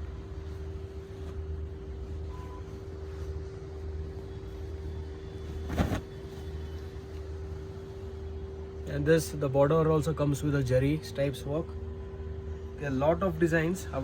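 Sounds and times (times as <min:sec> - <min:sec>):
constant mid-pitched tone: 0:00.0 - 0:14.0
low background hum: 0:00.0 - 0:14.0.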